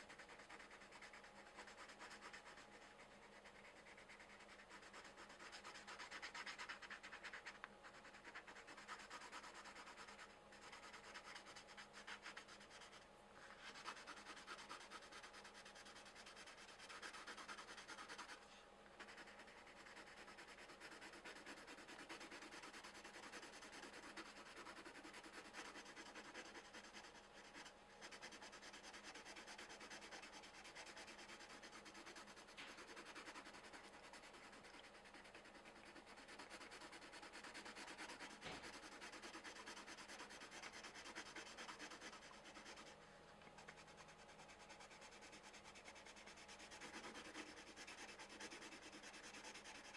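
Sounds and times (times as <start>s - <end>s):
pencils scratching on paper: 0.0s - 49.9s.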